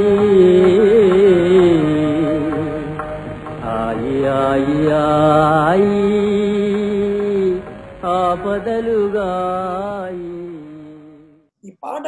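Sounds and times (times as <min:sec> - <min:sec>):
man singing long wavering notes: 0:00.0 - 0:03.0, 0:03.6 - 0:11.3
steady accompanying drone: 0:00.0 - 0:11.3.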